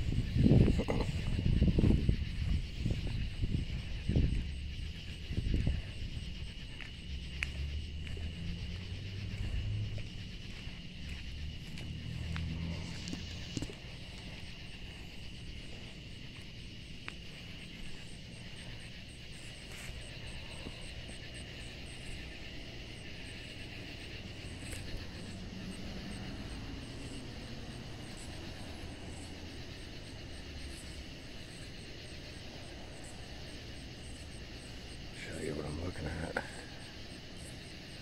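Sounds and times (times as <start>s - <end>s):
low rumble: 0.0s - 34.4s
insects buzzing: 0.0s - 38.0s
pulsed insect chirp: 0.0s - 38.0s.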